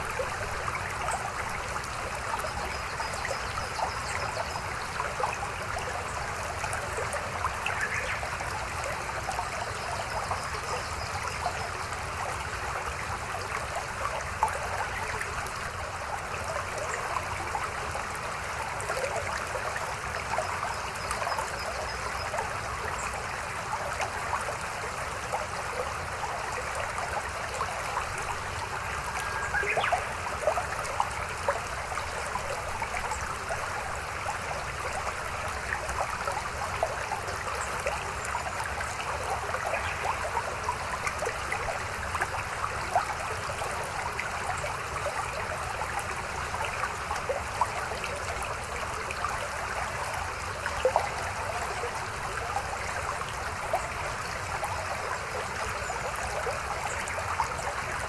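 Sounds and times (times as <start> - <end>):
mountain stream babbling: 0.0 - 58.0
small water splashes: 0.0 - 58.0.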